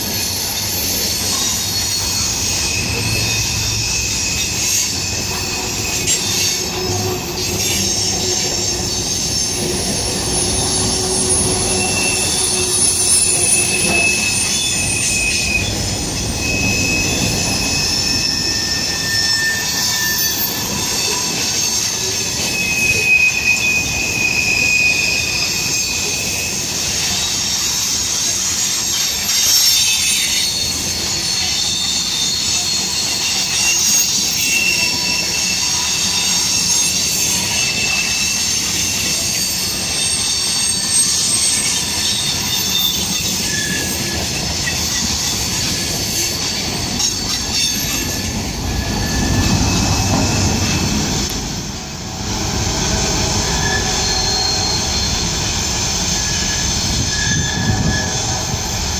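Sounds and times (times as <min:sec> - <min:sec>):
high-pitched wheel squeal: 0:00.0 - 0:58.9
train wheels rumbling on rail: 0:00.0 - 0:58.9.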